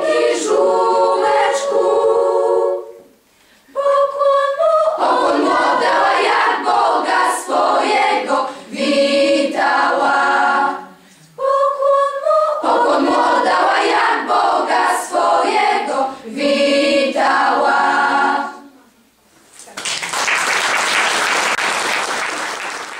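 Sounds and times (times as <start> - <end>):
girls' choir singing: 0.0 - 18.8.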